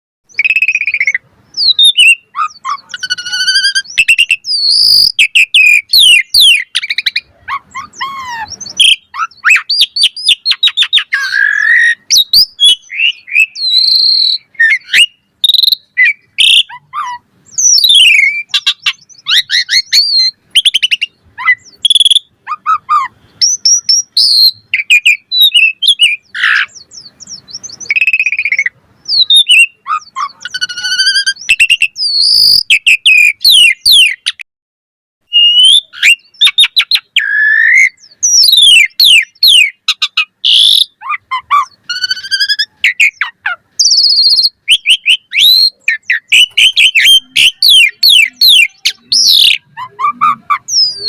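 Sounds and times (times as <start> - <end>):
starling singing whistled notes: 0.2 - 34.4, 35.3 - 51.0
harsh bird chattering: 0.3 - 34.4, 35.3 - 51.0.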